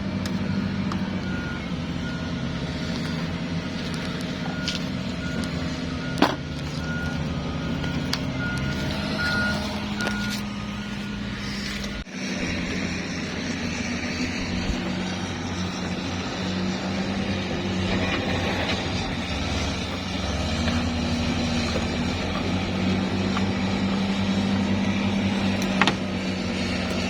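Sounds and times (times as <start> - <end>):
reversing alarm beeping: 0.0 - 27.0
vehicle engine running: 0.0 - 27.0.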